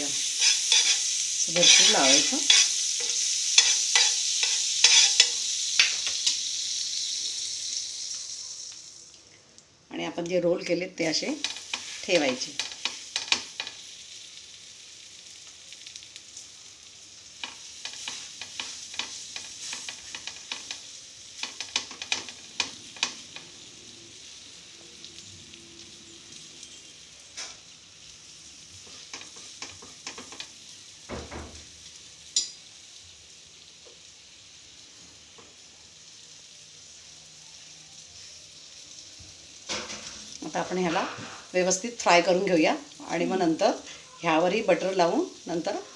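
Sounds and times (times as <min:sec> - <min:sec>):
butter sizzling in a frying pan: 0:00.0 - 0:45.9.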